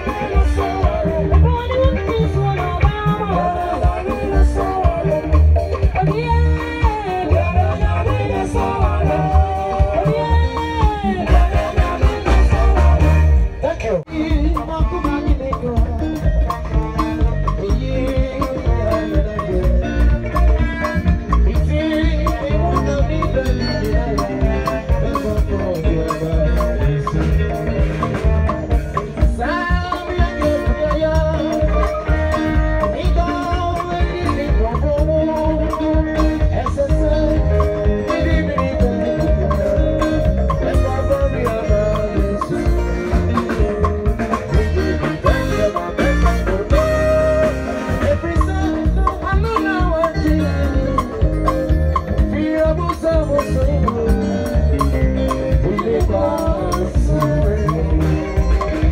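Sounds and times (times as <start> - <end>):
live band playing gospel groove: 0.0 - 58.9.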